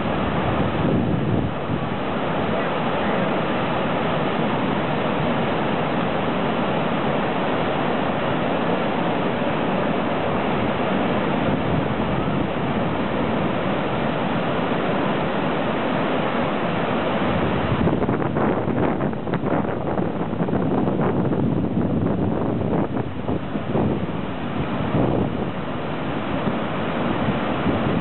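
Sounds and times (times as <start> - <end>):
waves breaking on beach: 0.0 - 28.0.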